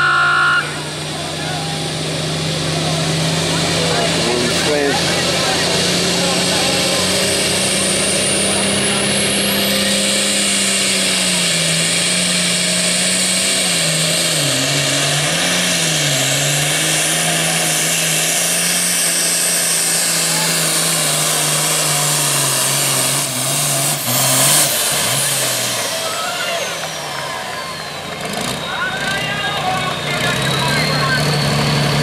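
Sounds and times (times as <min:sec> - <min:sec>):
diesel engine running flat out: 0:00.0 - 0:32.0.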